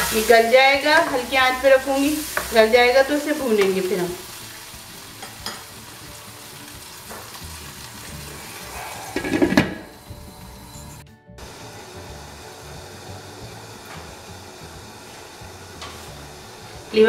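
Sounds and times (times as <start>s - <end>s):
gravy sizzling and bubbling in a wok: 0.0s - 17.0s.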